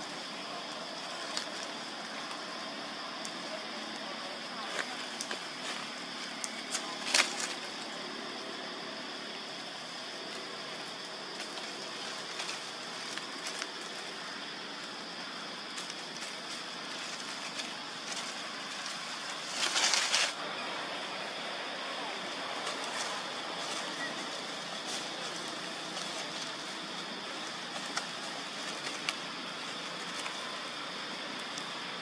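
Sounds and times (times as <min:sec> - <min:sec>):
dry leaves rustling: 0:00.0 - 0:32.0
outdoor background hiss: 0:00.0 - 0:32.0.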